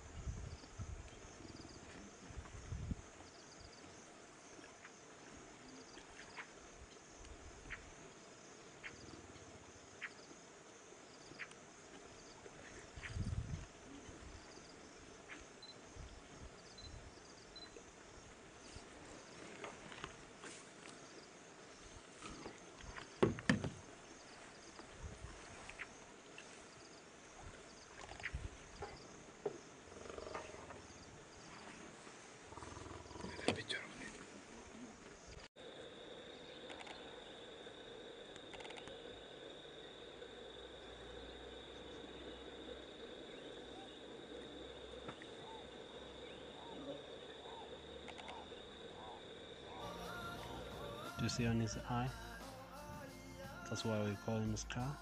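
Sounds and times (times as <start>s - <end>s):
insects chirring: 0.0s - 55.0s
lions feeding in shallow water: 1.1s - 13.0s, 13.6s - 35.2s, 35.9s - 49.8s.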